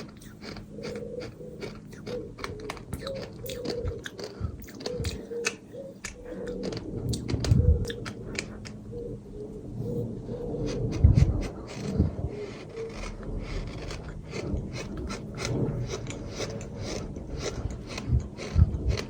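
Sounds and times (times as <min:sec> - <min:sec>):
gritty crunching chews: 0:00.0 - 0:08.8, 0:10.5 - 0:19.0.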